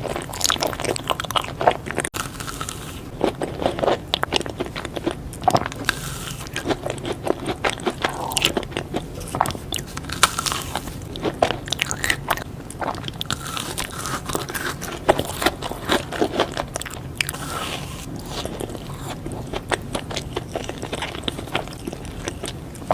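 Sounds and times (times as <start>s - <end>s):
chewing crunchy sweets: 0.0s - 22.9s.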